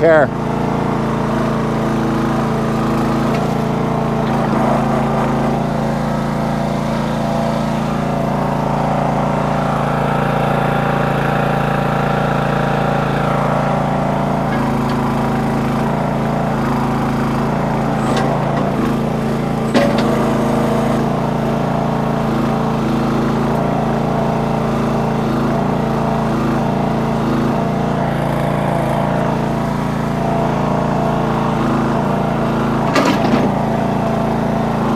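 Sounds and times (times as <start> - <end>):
small gasoline engine running: 0.0 - 34.9.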